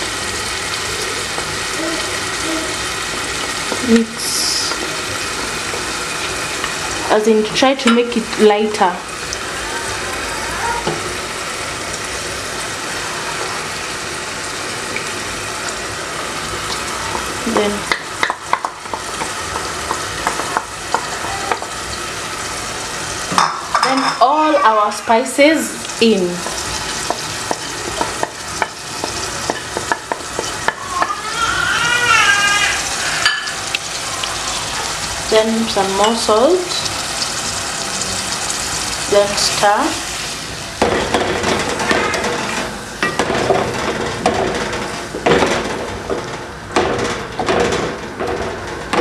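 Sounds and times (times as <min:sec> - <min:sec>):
vegetables sizzling in a pot: 0:00.0 - 0:49.0.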